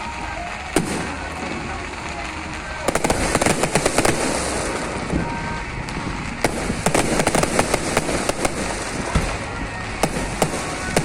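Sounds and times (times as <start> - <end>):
fireworks crackling pops: 0.0 - 11.0
fireworks rumbling hiss: 0.0 - 11.0.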